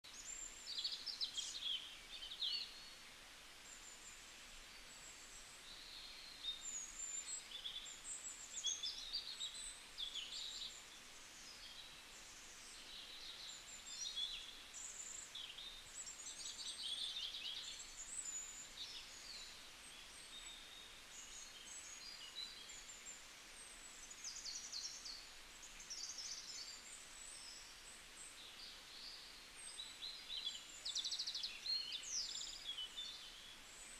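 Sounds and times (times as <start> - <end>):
faint steady hiss: 0.0 - 33.9
songbirds chirping and trilling: 0.0 - 33.9.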